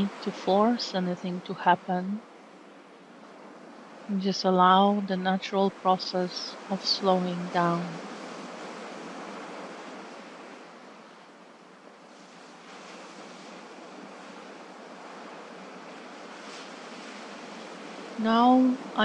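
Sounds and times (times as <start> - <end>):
sea waves washing in: 0.0 - 19.0.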